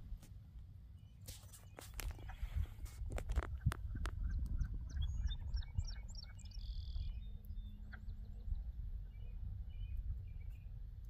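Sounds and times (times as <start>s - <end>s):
small birds chirping: 0.9s - 11.0s
wind rumble on microphone: 1.7s - 11.0s.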